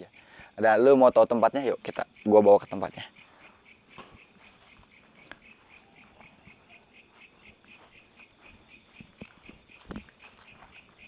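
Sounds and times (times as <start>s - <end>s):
animals chirping at night: 0.0s - 11.0s.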